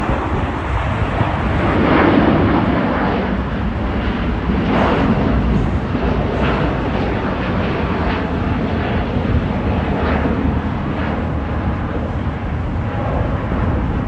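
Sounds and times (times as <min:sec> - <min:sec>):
jet airliners rumbling: 0:00.0 - 0:14.0
wind buffeting microphone: 0:00.0 - 0:14.0.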